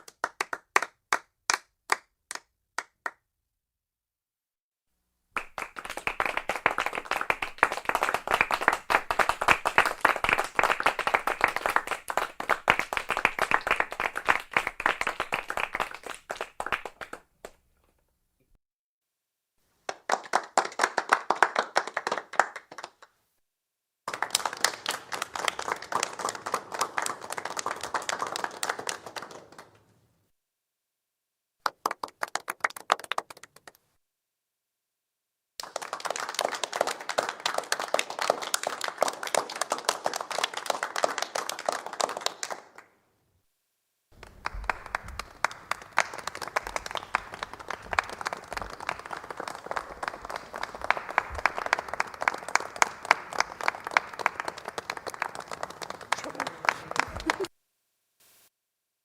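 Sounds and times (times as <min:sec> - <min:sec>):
people clapping: 0:00.0 - 0:03.3, 0:05.4 - 0:17.7, 0:19.8 - 0:23.2, 0:24.1 - 0:30.0, 0:31.6 - 0:33.9, 0:35.6 - 0:43.0, 0:44.1 - 0:57.5.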